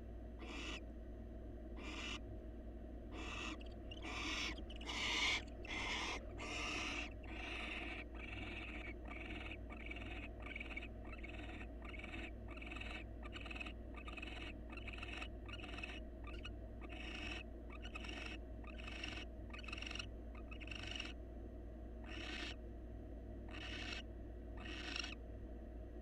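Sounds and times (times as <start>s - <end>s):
low electrical hum: 0.0s - 26.0s
owl rasping hiss calls: 0.4s - 0.8s, 1.8s - 2.2s, 3.1s - 21.2s, 22.0s - 22.6s, 23.5s - 25.2s.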